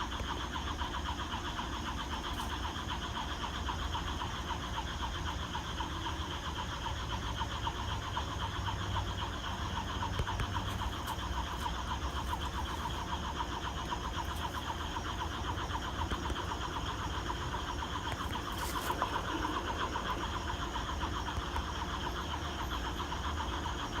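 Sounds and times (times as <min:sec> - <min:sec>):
frogs and insects chirping: 0:00.0 - 0:24.0
steady high hum: 0:00.0 - 0:24.0.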